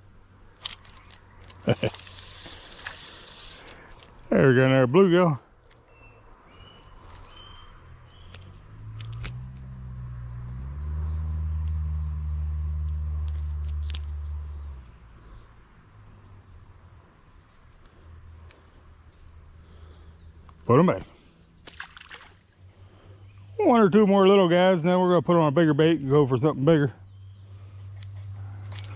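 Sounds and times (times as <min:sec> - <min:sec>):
low droning hum: 0:00.0 - 0:23.7, 0:25.9 - 0:28.9
crickets and insects chirring: 0:00.0 - 0:28.9.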